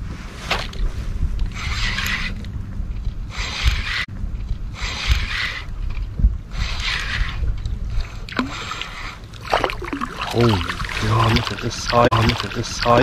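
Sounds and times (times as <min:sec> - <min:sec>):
wind rumble on microphone: 0:00.0 - 0:12.2.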